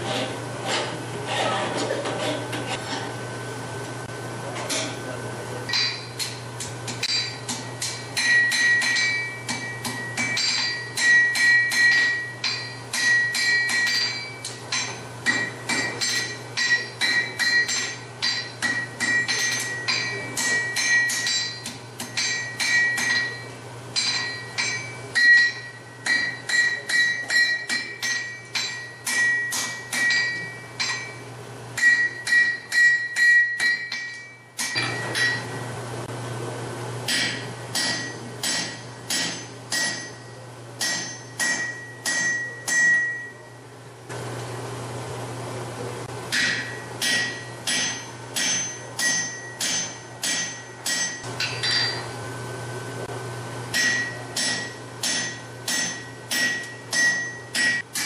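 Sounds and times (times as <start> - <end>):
steady low hum: 0.0 - 58.0
hammer striking steel on anvil: 5.7 - 35.7, 37.1 - 43.5, 46.3 - 52.2, 53.7 - 58.0.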